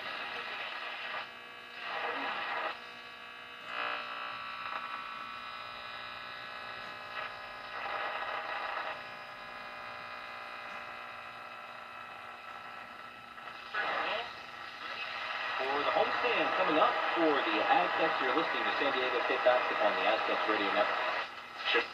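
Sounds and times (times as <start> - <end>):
radio hum and whine: 0.0 - 21.9
radio static hiss: 0.0 - 21.9.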